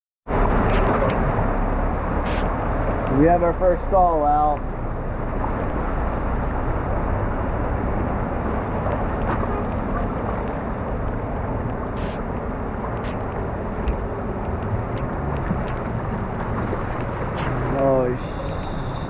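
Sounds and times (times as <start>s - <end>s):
water churning and sloshing: 0.3s - 19.0s.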